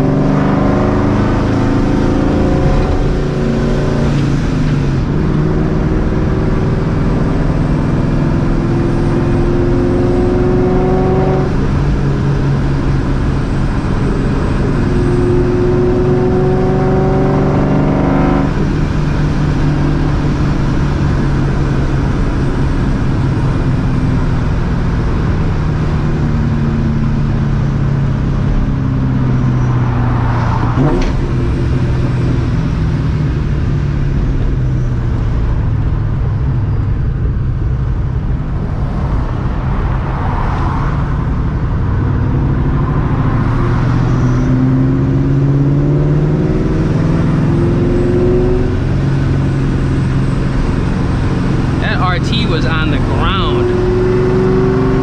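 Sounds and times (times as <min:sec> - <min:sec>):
car engine running: 0:00.0 - 0:39.9, 0:46.9 - 0:55.0.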